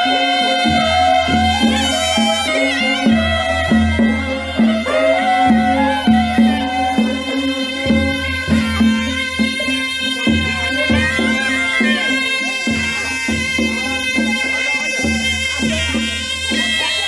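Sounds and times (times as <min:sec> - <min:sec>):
low drum beat: 0:00.0 - 0:16.6
reedy wind instrument melody: 0:00.0 - 0:17.0.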